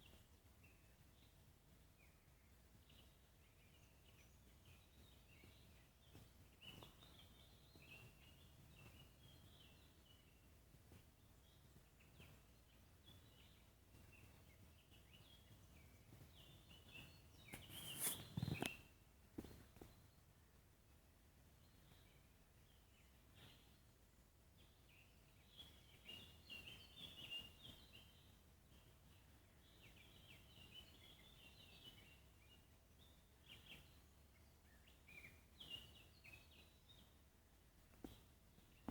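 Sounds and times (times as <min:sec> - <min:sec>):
faint birdsong chirps: 0:00.0 - 0:38.9.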